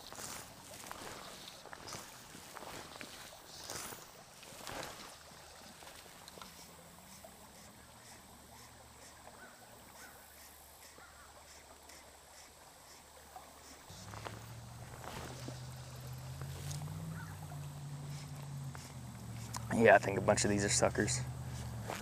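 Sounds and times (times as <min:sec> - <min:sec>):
fly line swishing onto water: 0:00.0 - 0:22.0
soft water movement: 0:00.0 - 0:22.0.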